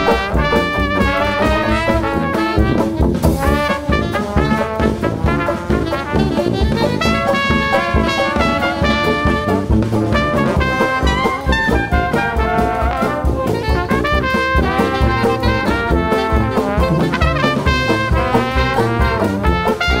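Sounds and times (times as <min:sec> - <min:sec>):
brass-led jazz music: 0:00.0 - 0:20.0.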